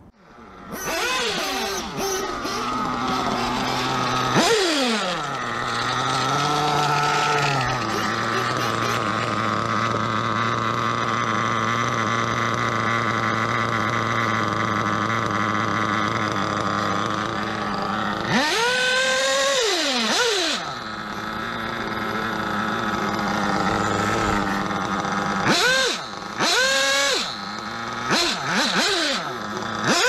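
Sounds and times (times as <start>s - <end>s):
engine revving: 0.0s - 30.0s
model car engines droning: 0.0s - 30.0s.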